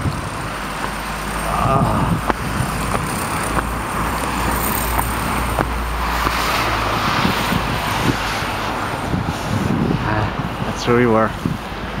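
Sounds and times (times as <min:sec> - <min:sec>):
passing cars hissing: 0:00.0 - 0:10.8
road traffic rumble: 0:00.0 - 0:12.0.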